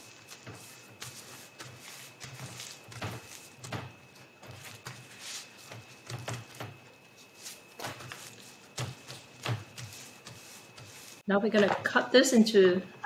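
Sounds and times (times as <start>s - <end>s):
paper rustling and patting: 0.0s - 11.8s.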